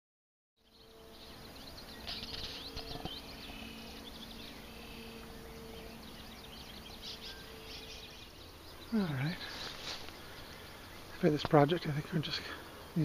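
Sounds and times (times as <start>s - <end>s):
birds chirping and calling: 0.6s - 13.0s
steady low hum: 0.6s - 13.0s.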